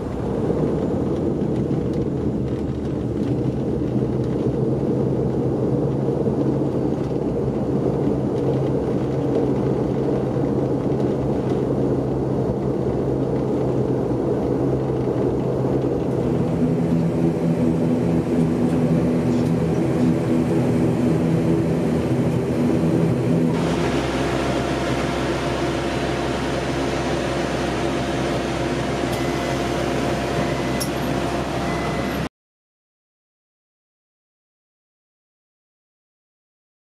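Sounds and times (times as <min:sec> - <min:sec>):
turboprop engine cabin hum: 0:00.0 - 0:32.3
whirring machine with high whine: 0:00.0 - 0:32.3.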